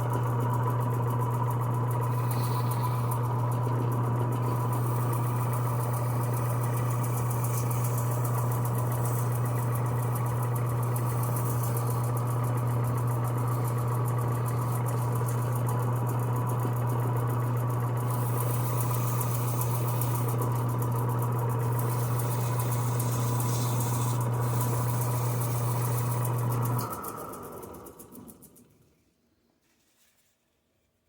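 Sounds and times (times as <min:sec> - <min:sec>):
electric sander running: 0:00.0 - 0:27.9.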